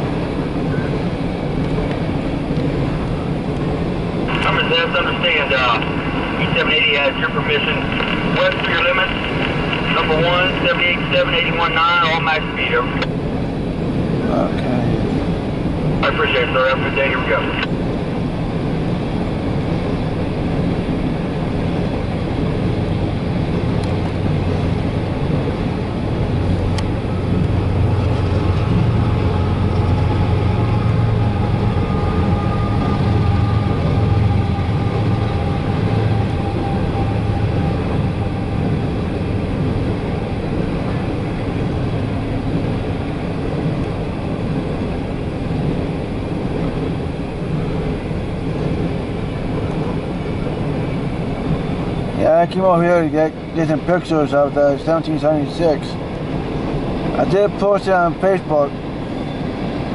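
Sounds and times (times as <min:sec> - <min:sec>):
train rolling past rumble: 0:00.0 - 0:59.9.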